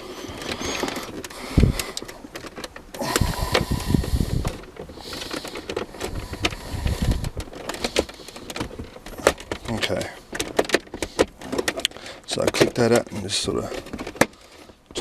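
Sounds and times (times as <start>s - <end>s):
plastic clicks and creaks: 0.0s - 15.0s.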